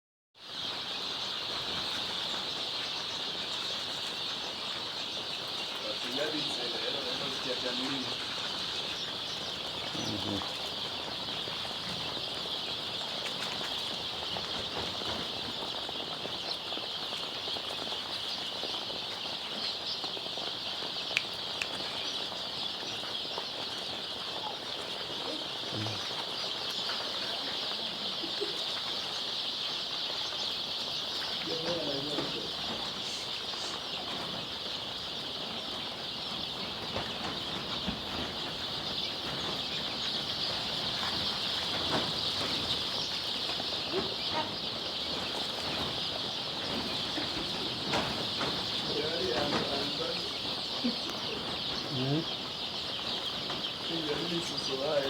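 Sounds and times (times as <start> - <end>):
chicks peeping: 0.4 - 55.0.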